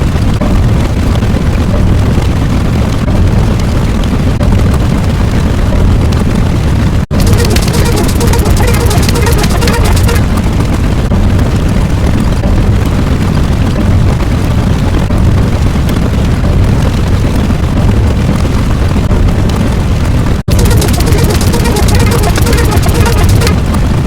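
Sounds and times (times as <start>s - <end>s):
loud steady rumbling: 0.0s - 24.0s.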